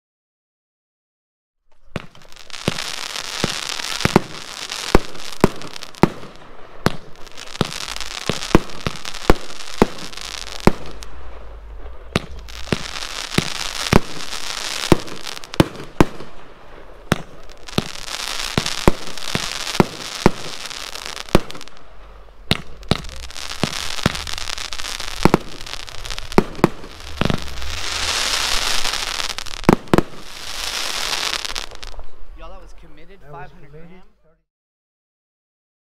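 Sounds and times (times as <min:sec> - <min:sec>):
fireworks crackling hiss: 0:01.7 - 0:32.8
fireworks launch and burst bangs: 0:01.9 - 0:32.2.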